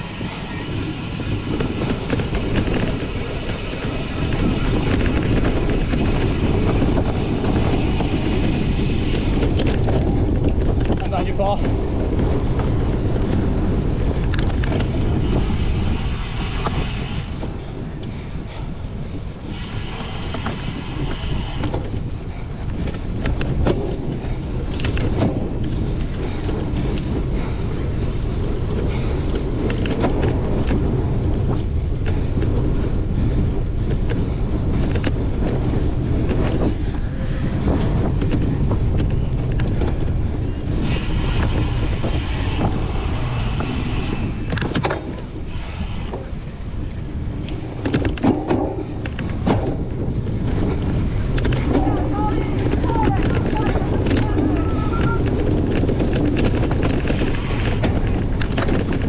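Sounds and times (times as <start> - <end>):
bike clicks and rattles: 0.0 - 59.0
wind rush on microphone: 0.0 - 59.0.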